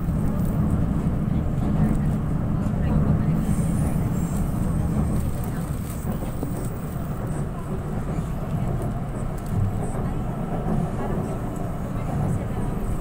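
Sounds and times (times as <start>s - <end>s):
light-rail car rumbling: 0.0s - 13.0s.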